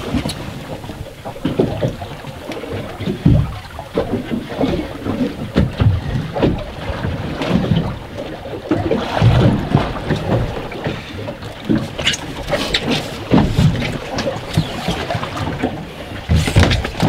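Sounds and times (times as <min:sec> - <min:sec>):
waves slapping boat hull: 0:00.0 - 0:17.0
wind buffeting microphone: 0:00.0 - 0:17.0.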